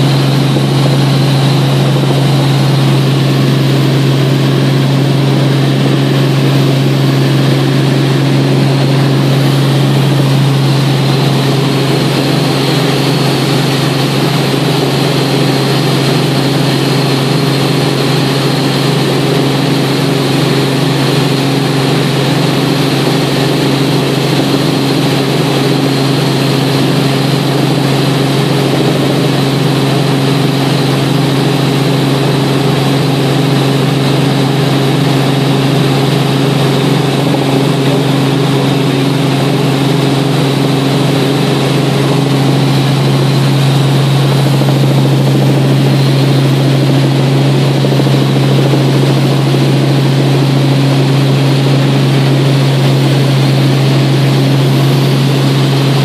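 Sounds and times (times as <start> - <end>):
helicopter engine and rotor hum: 0.0 - 56.0.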